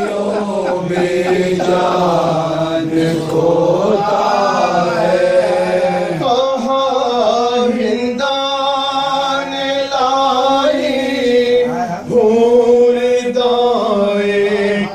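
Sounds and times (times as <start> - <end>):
men chanting a lament: 0.0 - 14.9.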